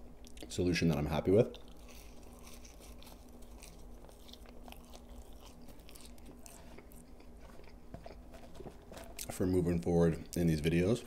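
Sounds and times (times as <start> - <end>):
chewing french fries: 0.2 - 10.7.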